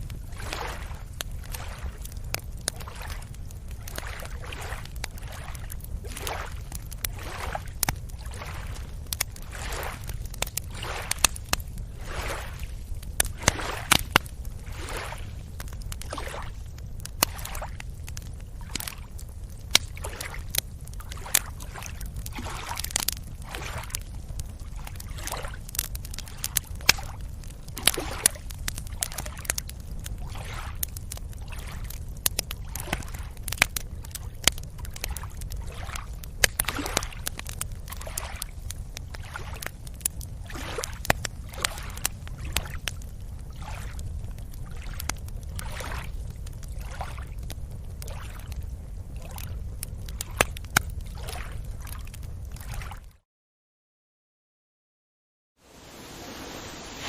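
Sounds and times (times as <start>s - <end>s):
small waves lapping: 0.3s - 29.6s, 30.2s - 32.0s, 32.6s - 46.2s, 46.8s - 47.2s, 48.0s - 48.6s, 51.1s - 53.0s, 55.6s - 57.0s.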